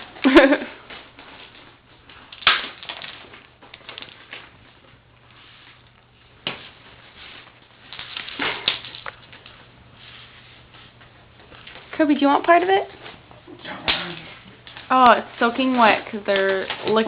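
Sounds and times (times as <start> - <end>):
cats pawing and chewing a toy: 0.0 - 17.0.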